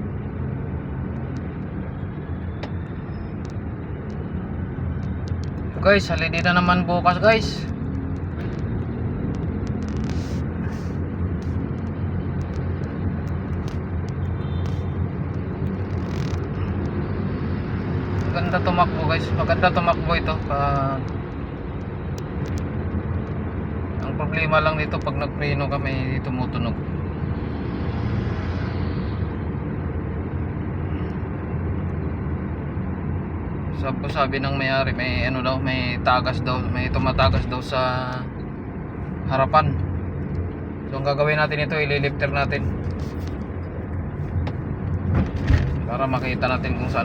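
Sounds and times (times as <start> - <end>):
car engine and road rumble: 0.0 - 47.0.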